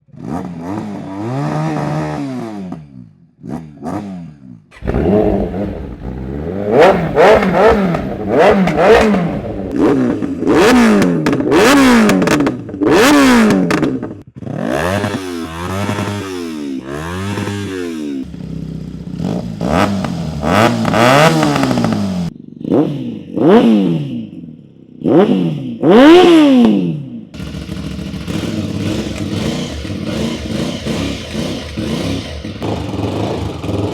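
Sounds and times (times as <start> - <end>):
motorcycle engines revving: 0.0 - 33.9.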